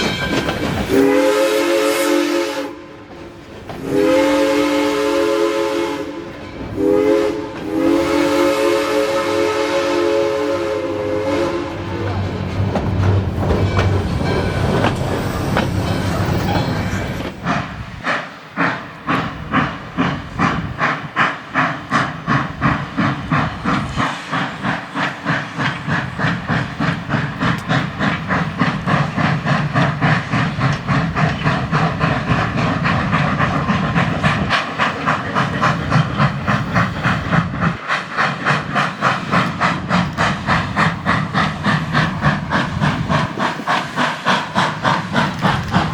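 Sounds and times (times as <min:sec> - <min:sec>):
steam hissing: 0:00.0 - 0:45.9
steam locomotive exhaust chuffing: 0:00.0 - 0:45.9.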